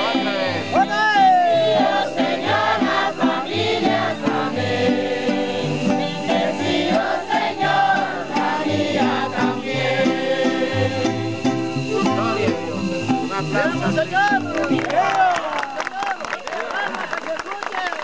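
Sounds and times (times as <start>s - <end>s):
crowd singing: 0.0s - 14.7s
acoustic guitars strumming: 0.0s - 15.4s.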